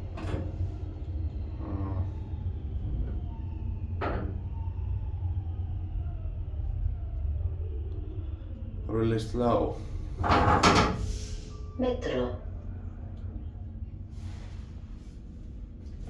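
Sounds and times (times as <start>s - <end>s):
elevator car rumbling: 0.0s - 16.0s
faint falling whine: 0.0s - 16.0s.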